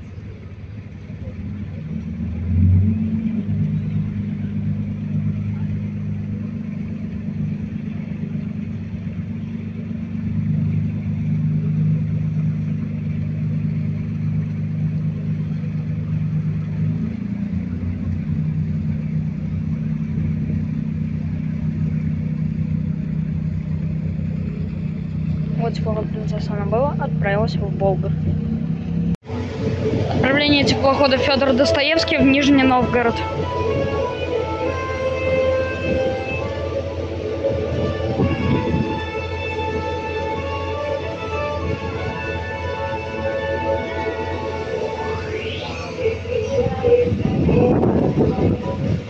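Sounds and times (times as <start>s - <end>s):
ship diesel engines droning: 0.0s - 49.0s.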